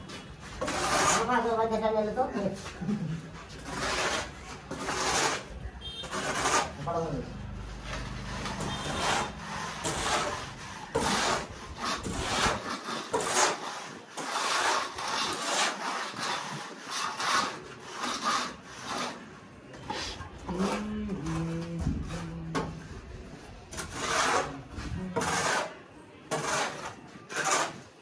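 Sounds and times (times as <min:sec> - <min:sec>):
mortar hoe scraping concrete: 0:00.0 - 0:22.9, 0:23.6 - 0:28.0
trowels scraping plaster: 0:00.0 - 0:28.0.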